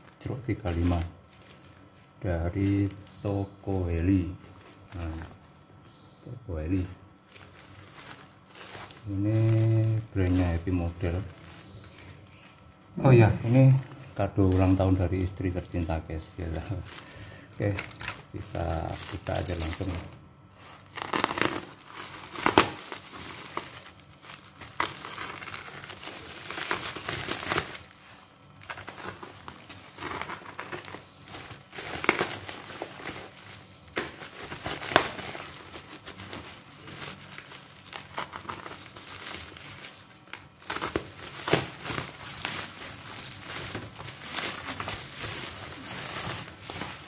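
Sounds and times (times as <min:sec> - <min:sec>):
handling noises: 0:00.0 - 0:47.0
plastic bag and bubble wrap crinkling: 0:00.0 - 0:47.0.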